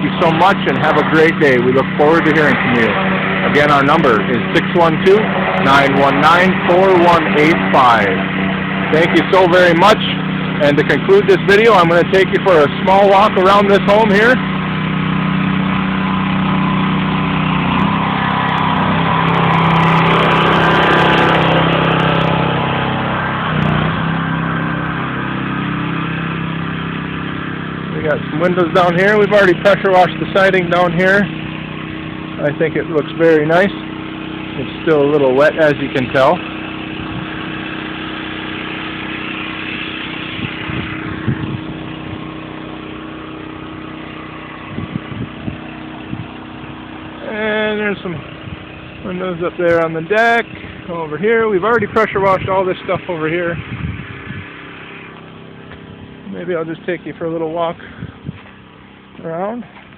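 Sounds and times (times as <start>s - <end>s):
pressure washer engine running: 0.0s - 59.9s.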